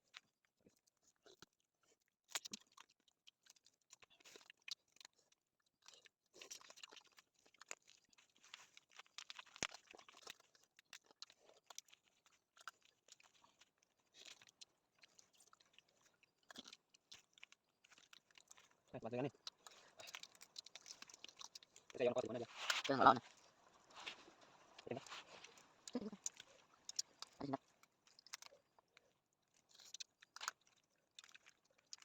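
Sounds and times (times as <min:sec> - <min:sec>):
person crunching and chewing: 0:00.0 - 0:32.0.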